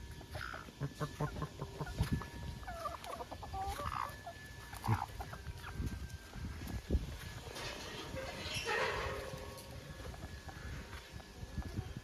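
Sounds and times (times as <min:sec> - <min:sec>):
chicken clucking: 0:00.1 - 0:12.0.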